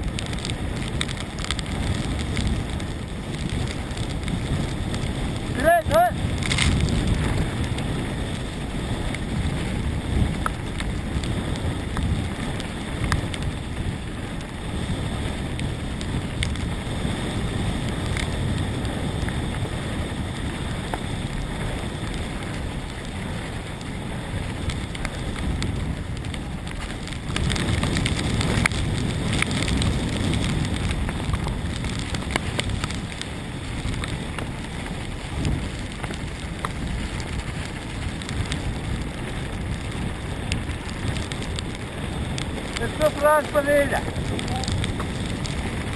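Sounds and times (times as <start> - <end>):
bike tyres and frame rattling: 0.0 - 45.9
wind rushing over microphone: 0.0 - 45.9.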